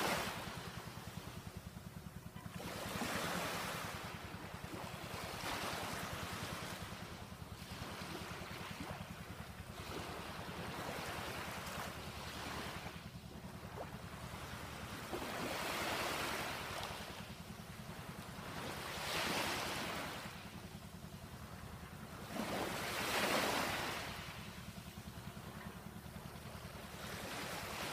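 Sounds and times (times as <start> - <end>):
small waves washing ashore: 0.0 - 27.9.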